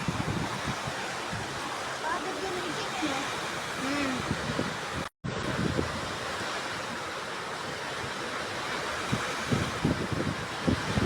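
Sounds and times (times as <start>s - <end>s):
heavy rain: 0.0s - 11.0s
storm wind: 0.0s - 11.0s
wind buffeting microphone: 0.0s - 11.0s.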